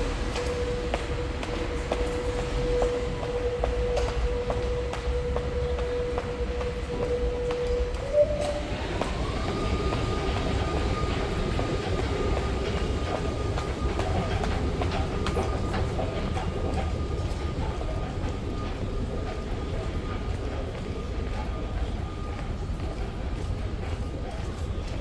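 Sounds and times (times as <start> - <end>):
underground train rumbling: 0.0 - 25.0.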